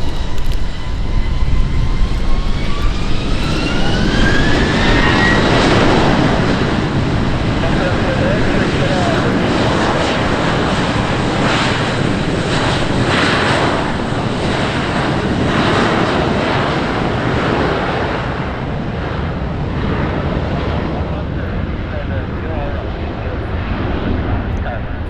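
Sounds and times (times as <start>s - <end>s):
airplane engine rushing: 0.0s - 25.0s.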